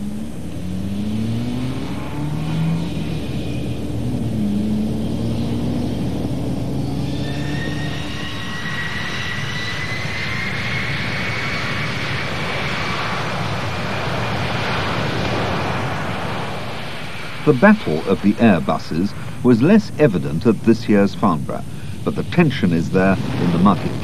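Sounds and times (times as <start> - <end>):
jet engine rumble: 0.0 - 24.0
turbine whine: 0.0 - 24.0.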